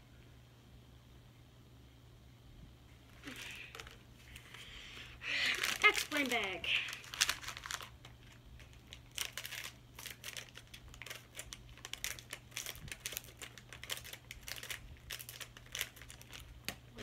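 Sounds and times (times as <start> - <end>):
foil bag crinkling: 3.1 - 17.0.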